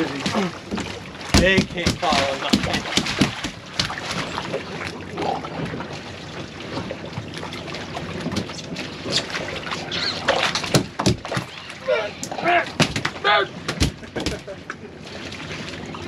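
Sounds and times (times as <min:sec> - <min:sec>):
water lapping against hull: 0:00.0 - 0:16.0.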